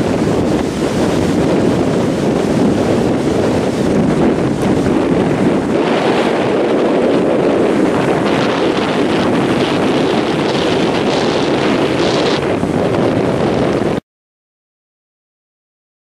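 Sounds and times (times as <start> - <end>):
sea surf rushing: 0.0 - 14.0
wind noise on microphone: 0.0 - 14.0.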